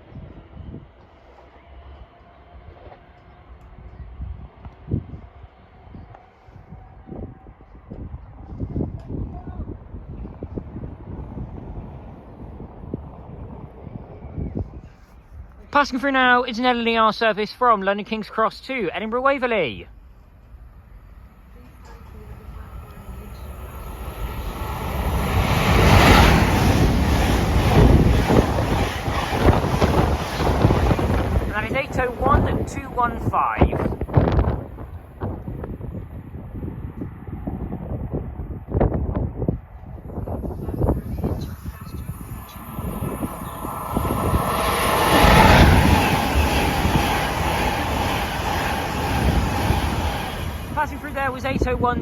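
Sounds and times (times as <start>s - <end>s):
electric train passing at speed: 0.0s - 52.0s
wind buffeting microphone: 3.4s - 15.6s, 20.8s - 52.0s.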